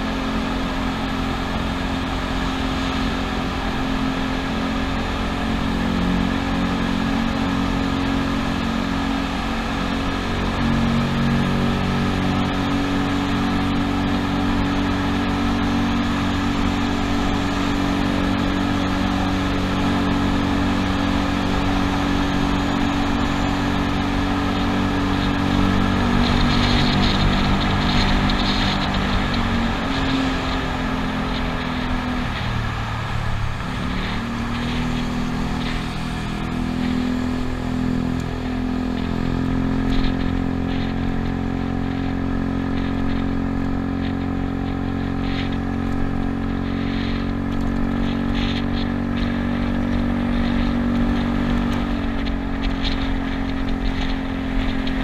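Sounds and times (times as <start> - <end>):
scooter engine running: 0.0 - 55.0
wind and road noise: 0.0 - 55.0.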